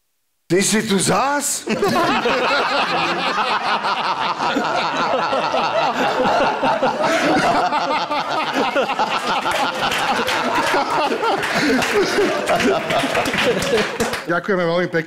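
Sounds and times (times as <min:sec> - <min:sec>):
people laughing: 0:01.6 - 0:14.3.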